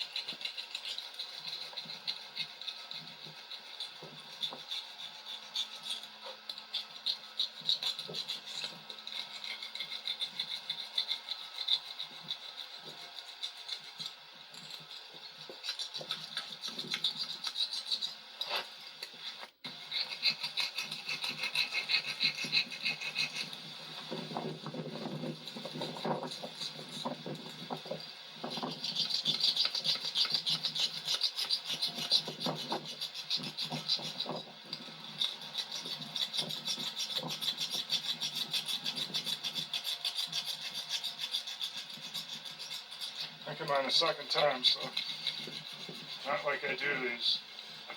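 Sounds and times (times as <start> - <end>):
hand tool scraping rubber: 0.0 - 47.9.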